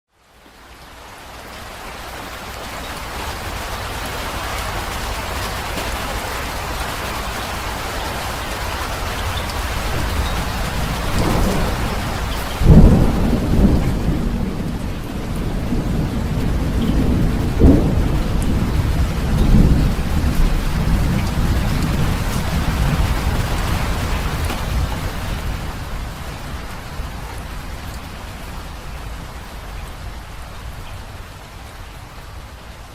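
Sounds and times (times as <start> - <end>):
heavy rain: 0.1 - 32.9
thunder rumbling: 3.0 - 31.3.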